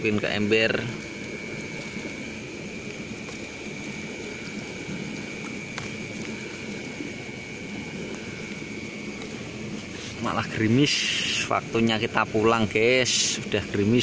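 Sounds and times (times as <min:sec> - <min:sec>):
drizzle falling: 0:00.0 - 0:11.4.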